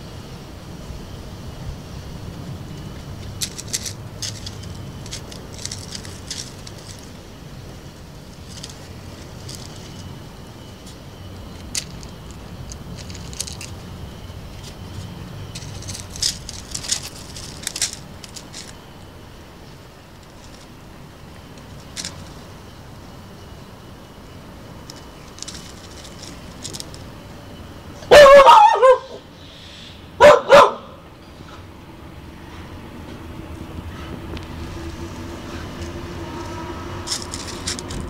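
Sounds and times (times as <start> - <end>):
low steady background hum: 0.0 - 38.0.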